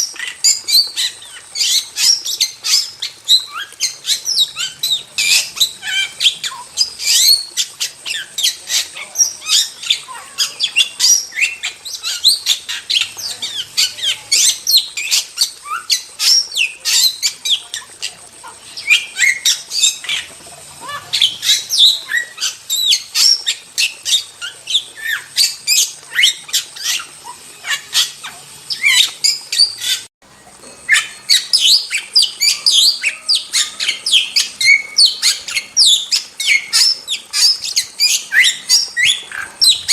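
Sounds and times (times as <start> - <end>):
starling chattering and whistling: 0.0 - 39.9.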